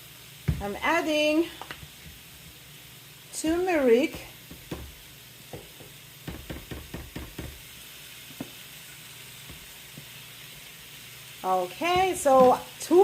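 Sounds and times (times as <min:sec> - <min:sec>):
stir fry sizzling in a pan: 0:00.0 - 0:13.0.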